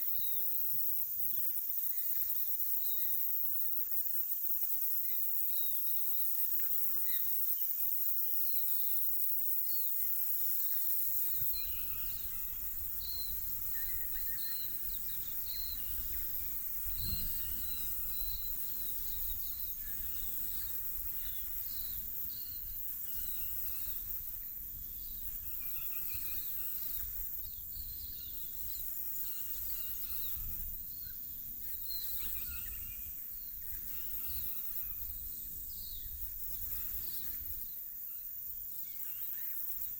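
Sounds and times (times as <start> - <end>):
high-pitched insect hiss: 0.0 - 39.9.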